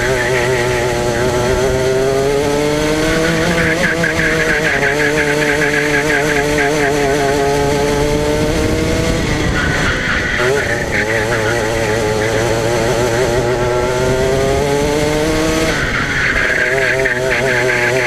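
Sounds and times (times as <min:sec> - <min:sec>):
go-kart engine running hard: 0:00.0 - 0:18.0.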